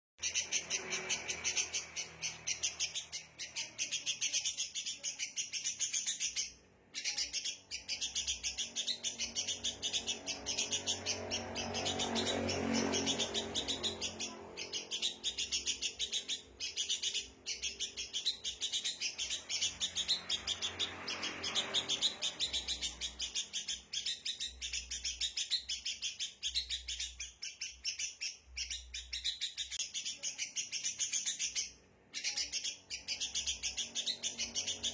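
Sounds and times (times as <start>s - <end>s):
birds chattering: 0.2s - 34.9s.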